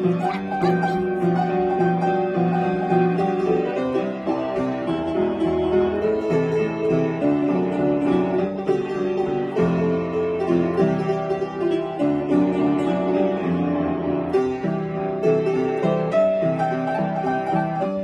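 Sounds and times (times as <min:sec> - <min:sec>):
upright piano playing: 0:00.0 - 0:18.0.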